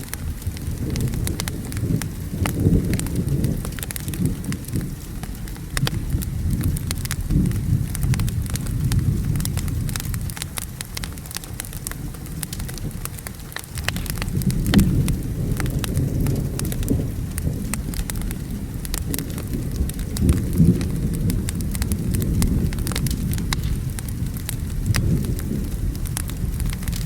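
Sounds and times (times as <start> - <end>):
fire crackling: 0.0 - 27.0
low rolling thunder: 0.0 - 27.0
steady rain: 0.0 - 27.0.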